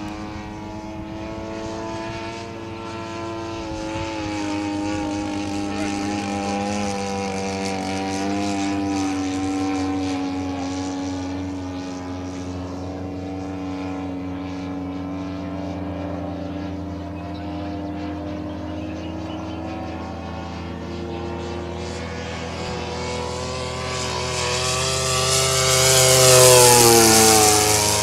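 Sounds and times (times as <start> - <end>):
model plane engine buzzing: 0.0 - 28.0.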